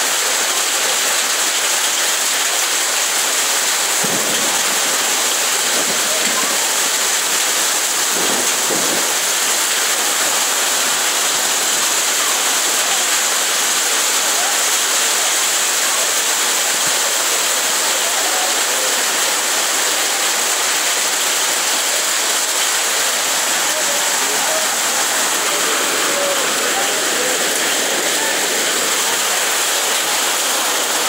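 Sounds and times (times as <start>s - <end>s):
hail and rain pelting: 0.0s - 31.0s.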